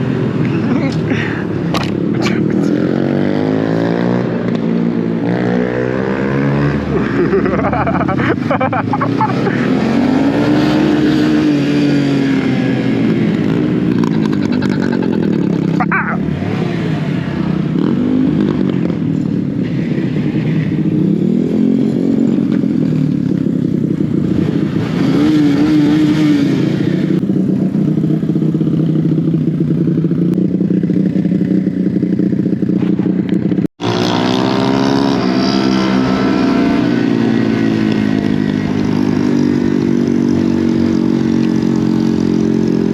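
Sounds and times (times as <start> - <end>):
mini bike engine revving: 0.0 - 19.1, 19.7 - 42.9.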